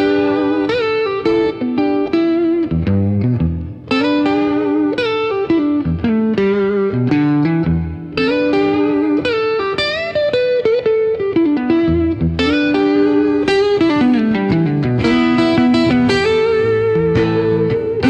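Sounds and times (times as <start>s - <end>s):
electric guitar melody: 0.0s - 18.0s.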